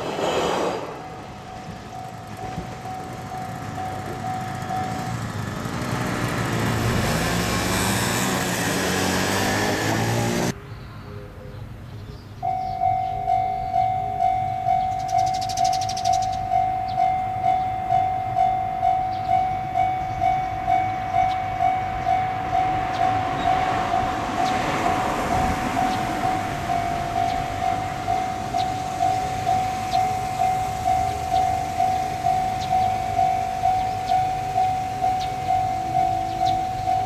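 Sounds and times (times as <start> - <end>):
train rolling past: 0.0 - 10.6, 12.4 - 37.0
level-crossing warning bell: 1.0 - 9.2, 12.4 - 37.0.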